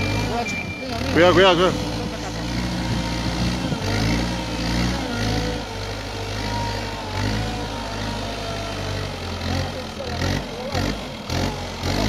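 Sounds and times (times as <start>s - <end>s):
diesel engine under load: 0.0s - 12.0s.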